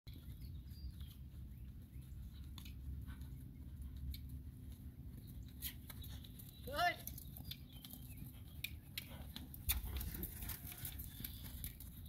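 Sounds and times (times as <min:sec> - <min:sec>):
horse hooves trotting on sand: 0:00.1 - 0:12.0
low steady rumble: 0:00.2 - 0:11.3.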